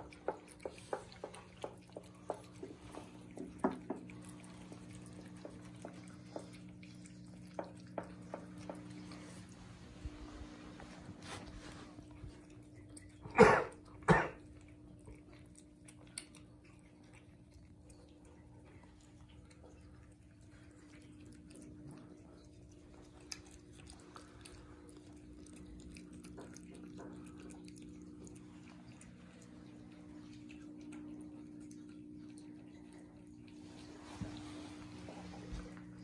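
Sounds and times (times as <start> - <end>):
cat chewing and licking: 0.0 - 36.0.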